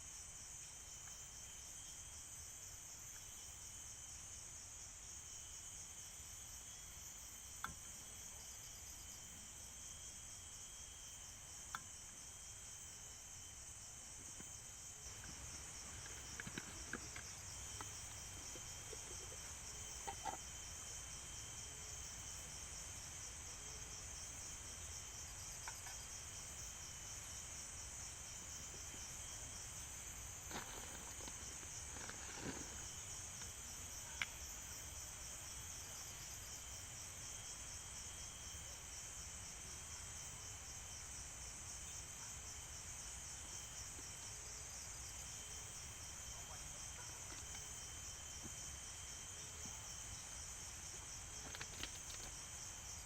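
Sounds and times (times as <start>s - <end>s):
insects trilling: 0.1s - 53.0s.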